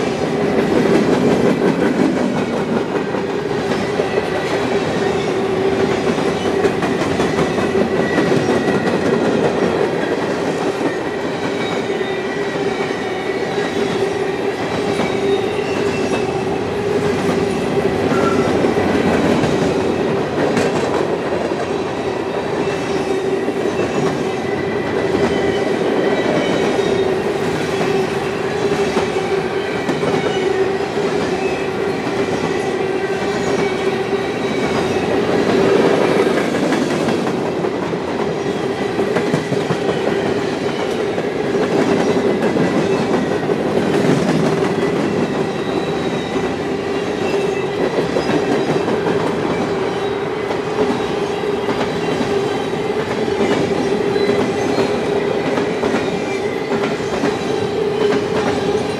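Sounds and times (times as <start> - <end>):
wheels ringing on rails: 0.0 - 58.9.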